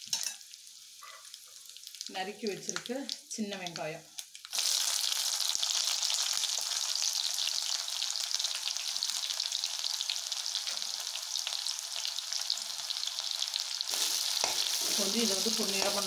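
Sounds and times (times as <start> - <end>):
shallots sizzling in oil: 0.0 - 16.0.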